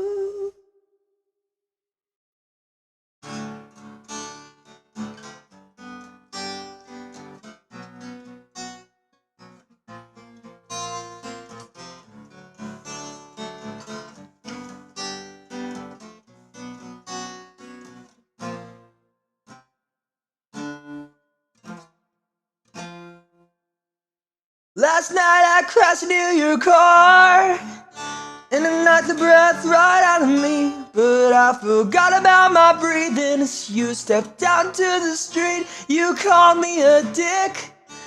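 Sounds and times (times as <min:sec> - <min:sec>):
acoustic guitar playing: 0:03.2 - 0:19.7, 0:20.6 - 0:22.0, 0:22.7 - 0:23.5, 0:24.8 - 0:38.0.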